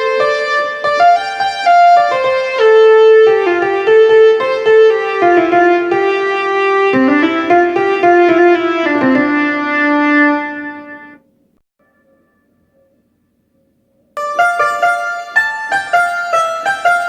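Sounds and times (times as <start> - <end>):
keyboard piano melody: 0.0 - 11.2, 14.2 - 17.0.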